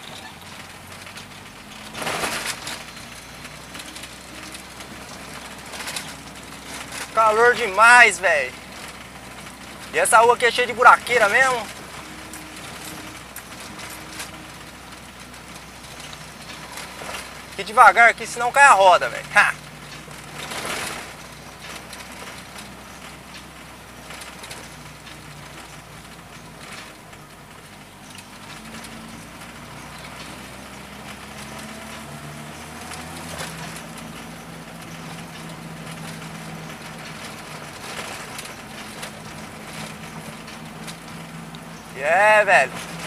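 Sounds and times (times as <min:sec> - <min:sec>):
car engine at low revs: 0:00.0 - 0:43.0
car knocks and rattles: 0:00.0 - 0:43.0.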